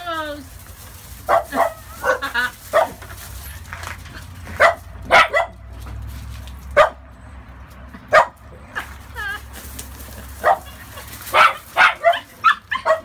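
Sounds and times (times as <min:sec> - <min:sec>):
puppies barking and yipping: 0:01.0 - 0:13.0.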